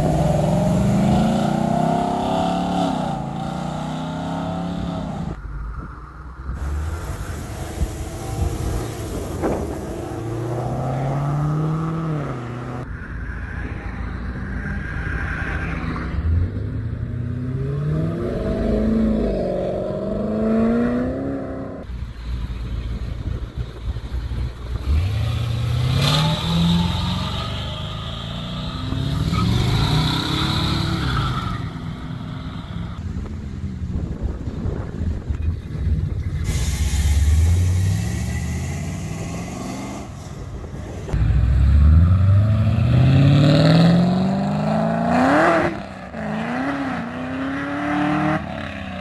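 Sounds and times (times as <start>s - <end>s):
car engines revving and accelerating: 0.0s - 49.0s.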